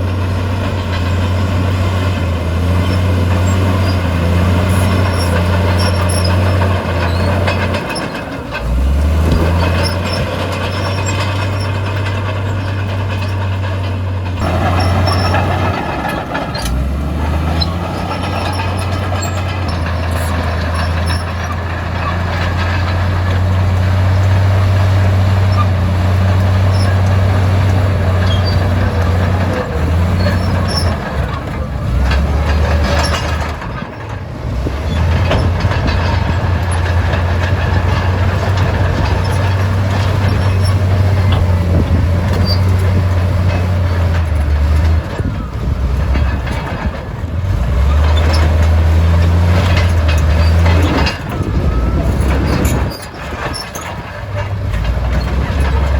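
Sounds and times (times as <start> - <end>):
heavy diesel engine under load: 0.0 - 55.9.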